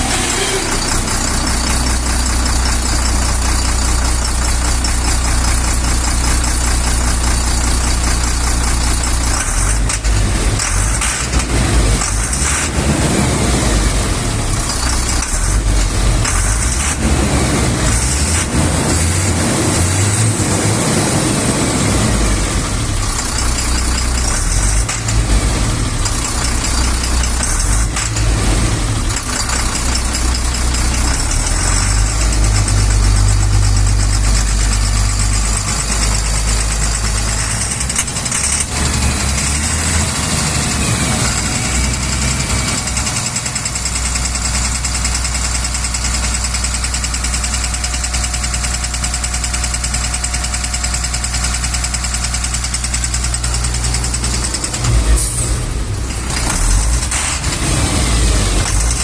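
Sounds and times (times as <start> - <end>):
diesel truck engine running: 0.0 - 59.0
engine knock: 0.0 - 59.0.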